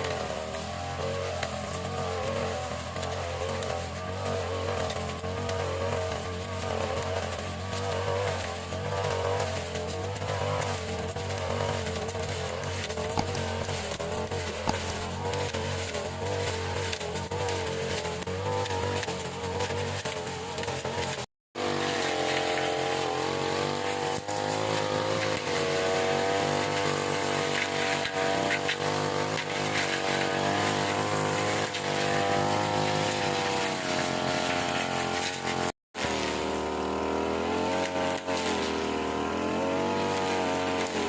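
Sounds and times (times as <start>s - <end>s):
grass cutter petrol engine running: 0.0s - 41.0s.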